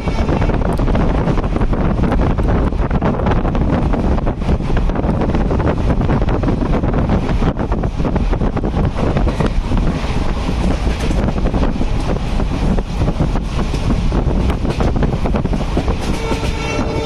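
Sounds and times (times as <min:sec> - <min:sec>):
train rumbling and rattling: 0:00.0 - 0:17.0
wind buffeting microphone: 0:00.0 - 0:17.0.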